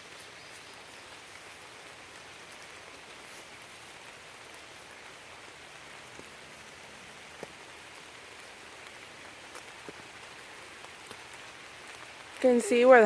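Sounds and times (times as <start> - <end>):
hiss of running water: 0.0 - 13.0.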